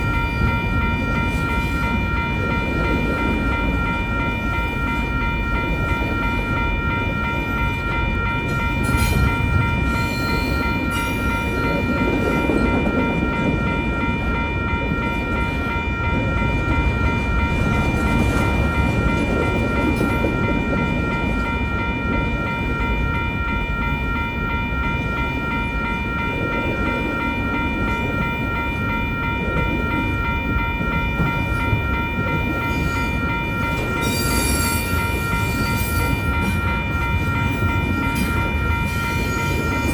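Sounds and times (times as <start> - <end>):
crossing warning bell ringing: 0.0 - 39.9
freight train cars rumbling past: 0.0 - 39.9.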